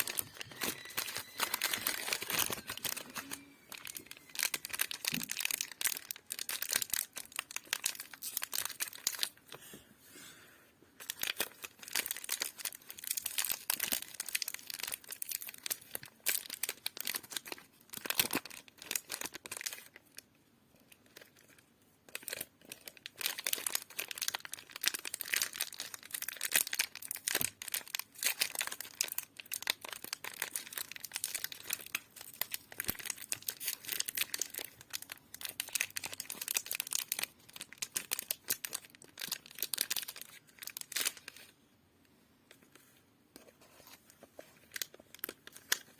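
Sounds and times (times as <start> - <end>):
wrappers crinkling and tearing: 0.0 - 9.4, 11.0 - 20.2, 20.9 - 41.6, 44.6 - 45.9.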